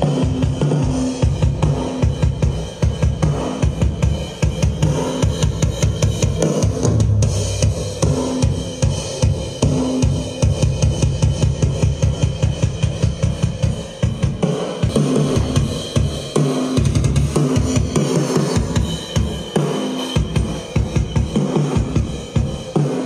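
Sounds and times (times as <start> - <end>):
drum beat from speaker: 0.0 - 23.0.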